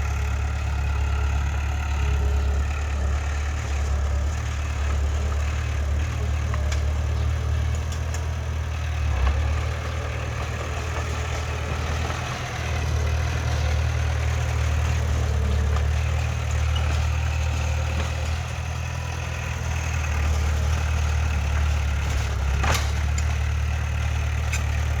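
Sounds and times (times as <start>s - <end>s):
heavy diesel engine idling: 0.0s - 25.0s.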